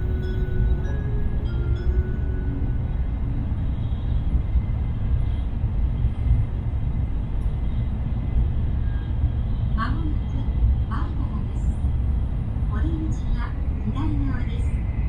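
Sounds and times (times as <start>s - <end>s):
train running inside cabin: 0.0s - 15.0s.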